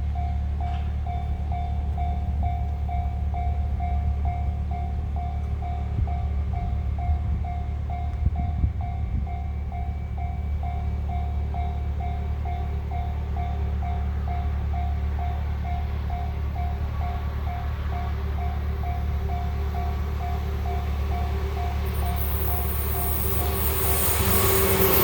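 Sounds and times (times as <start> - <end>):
electric train rumbling past: 0.0 - 25.0.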